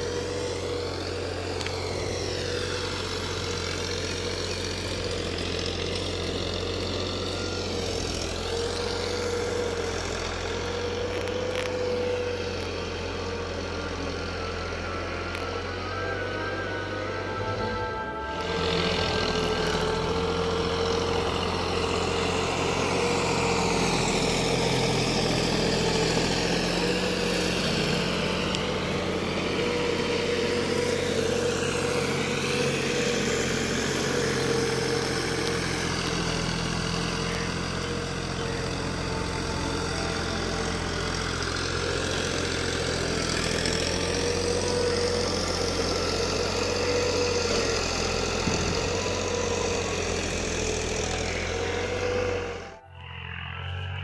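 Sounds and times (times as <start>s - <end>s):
steady whine: 0.0s - 54.0s
tractor diesel engine running: 0.0s - 54.0s.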